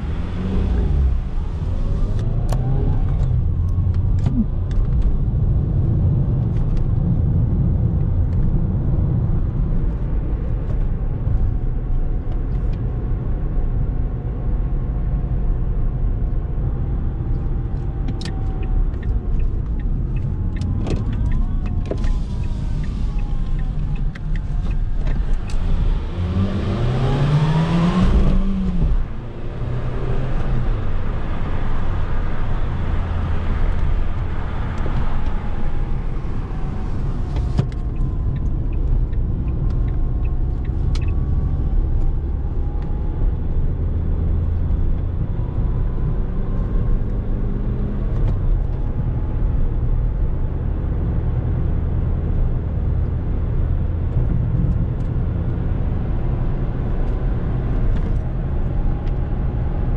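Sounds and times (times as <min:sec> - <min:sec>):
car engine accelerating: 0:00.0 - 0:06.9, 0:16.8 - 0:59.9
road noise: 0:00.0 - 0:59.9.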